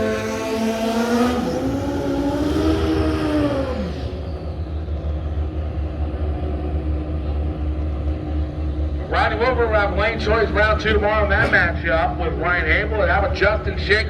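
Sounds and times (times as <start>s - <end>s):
low steady engine rumble: 0.0s - 14.0s
motorcycle engines slowing down: 0.0s - 14.0s.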